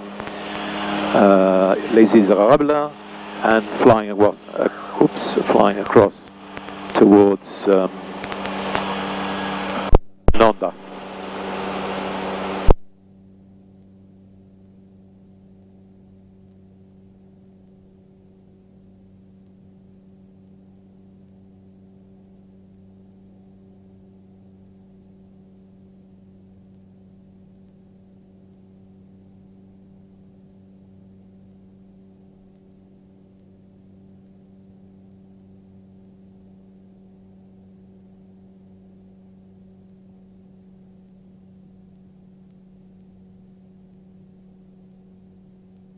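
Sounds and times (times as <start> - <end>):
muffled engine and propeller drone: 0.0 - 45.9
open microphone hiss: 0.0 - 45.9.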